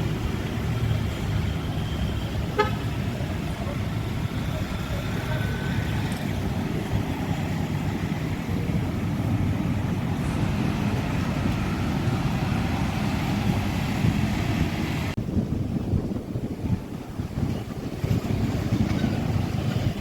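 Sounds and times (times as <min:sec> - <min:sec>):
rumble of passing vehicles: 0:00.0 - 0:20.0
wind buffeting microphone: 0:00.0 - 0:20.0.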